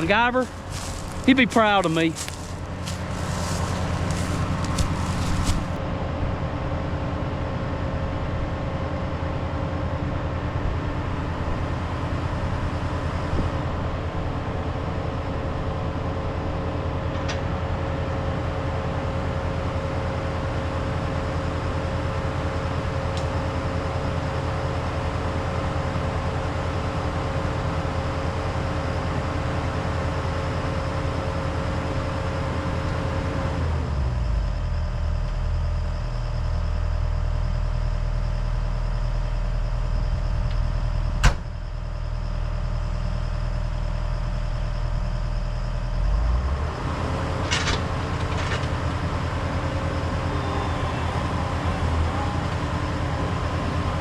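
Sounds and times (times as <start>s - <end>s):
heavy equipment engine running: 0.0s - 54.0s.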